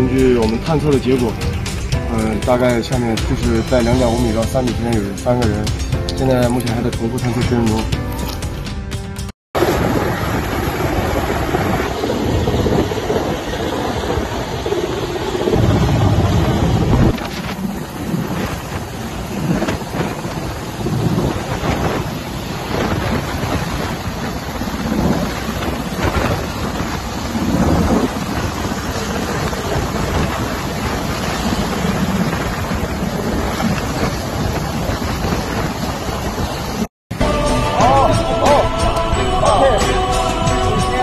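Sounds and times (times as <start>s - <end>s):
helicopter downwash wind noise: 0.0s - 7.8s, 9.6s - 37.2s.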